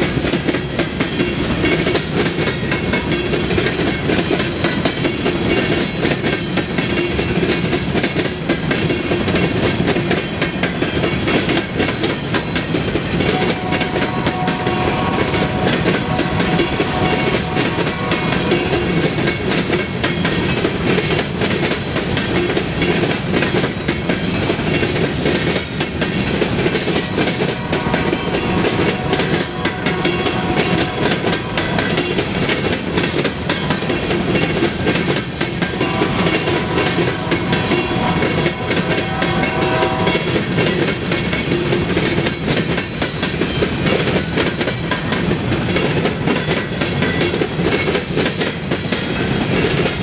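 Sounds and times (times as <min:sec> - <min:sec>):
freight train rumble: 0:00.0 - 0:50.0
steel wheels clacking over rails: 0:00.0 - 0:50.0.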